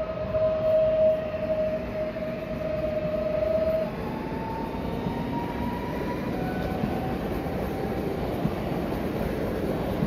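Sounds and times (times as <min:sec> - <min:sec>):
electric train whine: 0:00.0 - 0:10.0
train wheels rumbling on rails: 0:00.0 - 0:10.0.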